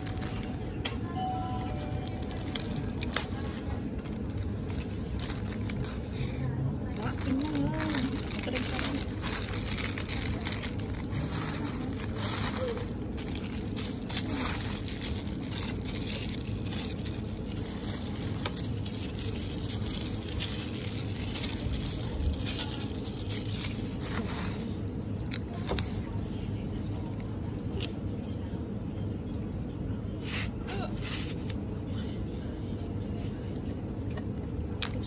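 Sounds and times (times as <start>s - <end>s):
low background rumble: 0.0s - 35.0s.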